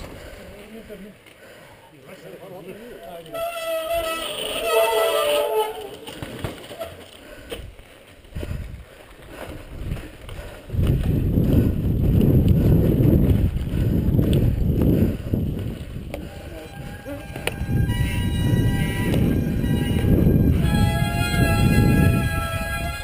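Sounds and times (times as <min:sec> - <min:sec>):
bike rattling: 0:00.0 - 0:23.0
bike tyres rumbling on rock: 0:03.3 - 0:23.0.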